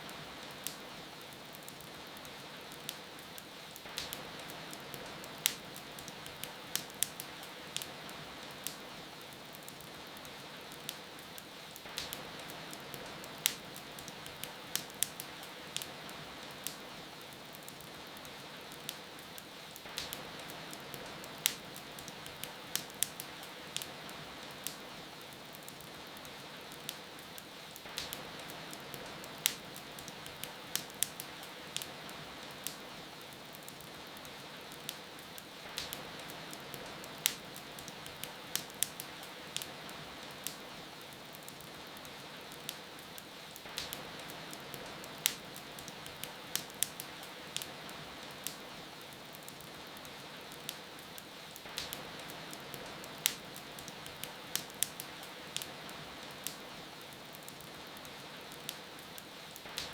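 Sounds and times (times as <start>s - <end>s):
rain hiss: 0.0s - 59.9s
wood fire crackling and popping: 0.0s - 59.9s.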